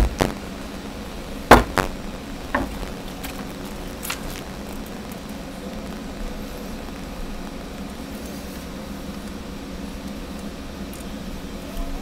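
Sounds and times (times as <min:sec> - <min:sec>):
static rumble and hiss: 0:00.0 - 0:12.0.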